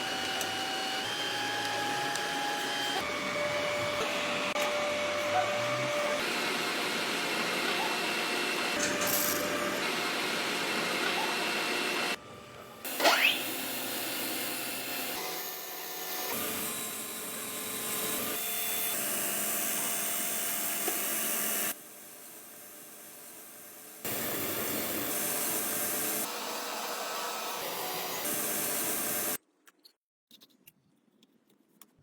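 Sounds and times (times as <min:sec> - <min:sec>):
power tool running: 0:00.0 - 0:29.4.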